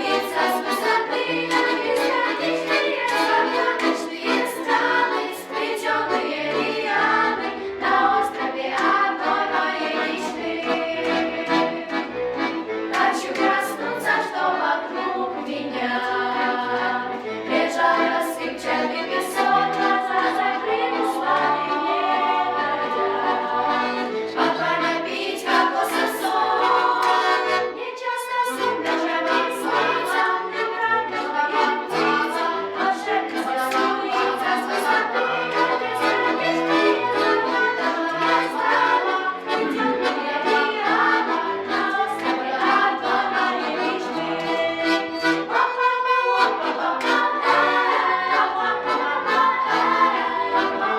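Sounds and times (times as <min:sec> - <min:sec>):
girls singing a pop song: 0:00.0 - 0:12.1, 0:12.9 - 0:50.9
instrumental accompaniment: 0:00.0 - 0:50.9.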